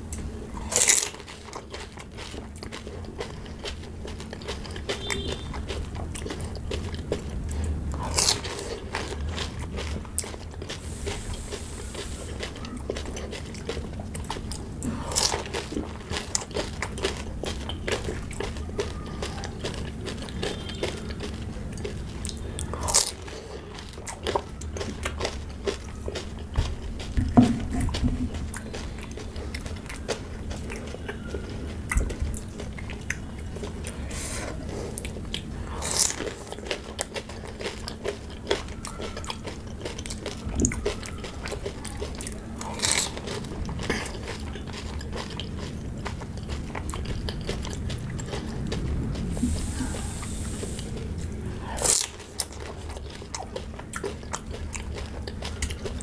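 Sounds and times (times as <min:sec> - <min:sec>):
crunching crisp food: 0:00.0 - 0:56.0
wet chewing: 0:00.0 - 0:56.0.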